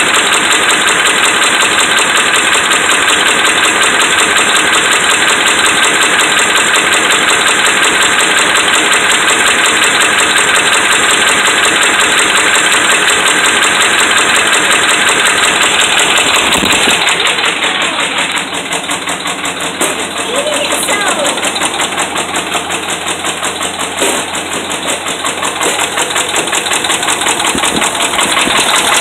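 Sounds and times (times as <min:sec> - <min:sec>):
metallic engine knocking: 0:00.0 - 0:29.0
truck engine running: 0:00.0 - 0:29.0.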